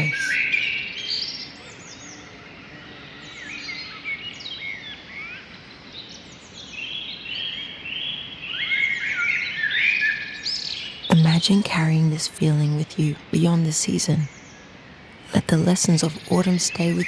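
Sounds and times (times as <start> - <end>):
outdoor ambience hiss: 0.0 - 17.0
small birds chirping: 0.0 - 17.0.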